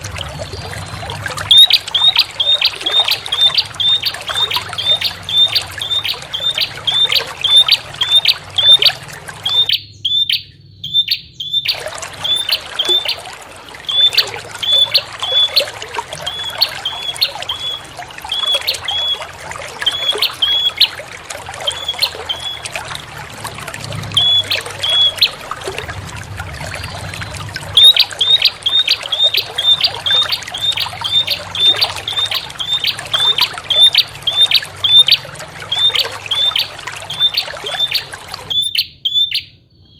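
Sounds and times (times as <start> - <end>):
trickle of running water: 0.0 - 10.4, 11.0 - 39.2.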